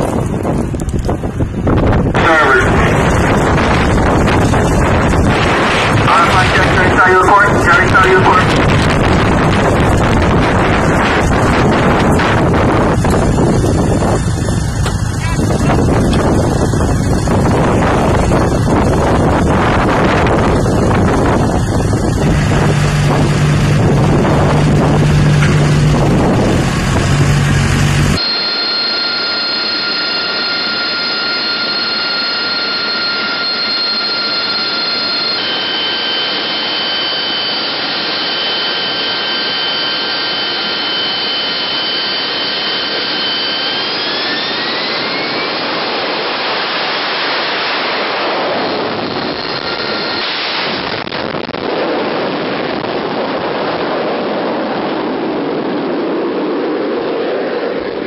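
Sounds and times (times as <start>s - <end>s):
jet engine whining: 0.0s - 58.0s
loud jet noise: 0.0s - 58.0s.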